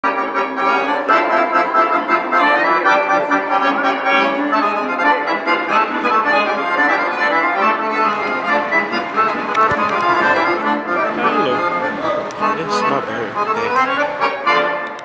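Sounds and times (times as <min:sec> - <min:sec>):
accordion playing a tune: 0:00.0 - 0:15.0.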